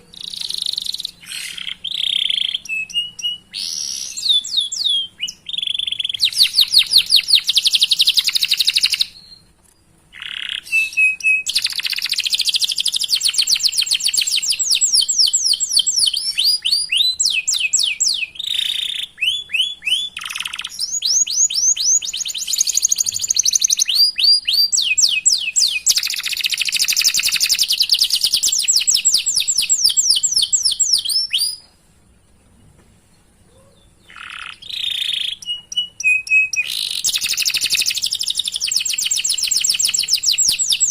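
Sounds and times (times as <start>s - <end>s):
canary singing trills: 0.0s - 31.7s, 33.4s - 40.9s.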